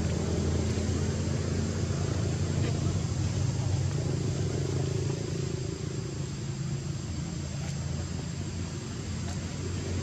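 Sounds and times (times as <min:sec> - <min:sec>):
even hiss: 0:00.0 - 0:10.0
low rumble: 0:00.0 - 0:10.0.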